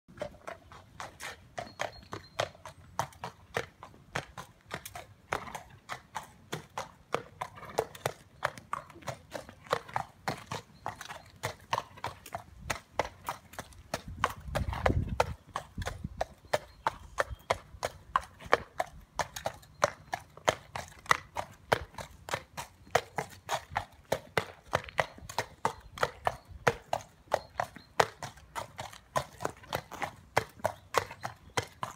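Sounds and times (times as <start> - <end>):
hooves clopping on wet concrete: 0.1 - 31.9.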